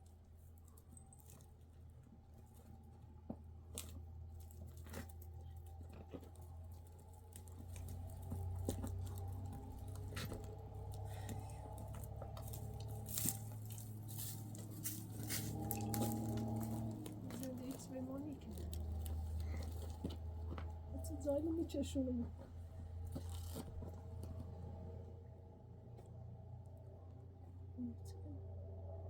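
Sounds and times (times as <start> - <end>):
small clicks and crackles: 0.0 - 24.6
low steady hum: 0.0 - 29.0.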